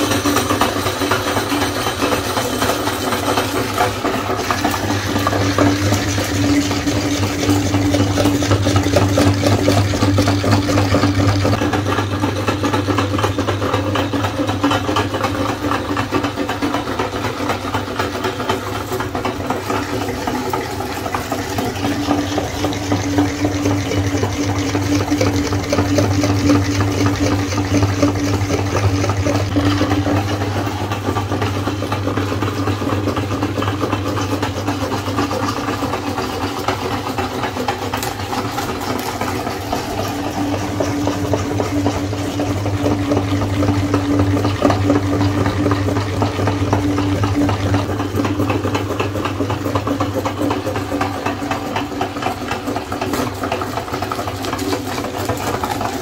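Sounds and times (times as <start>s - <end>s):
meat grinder motor grinding: 0.0s - 56.0s.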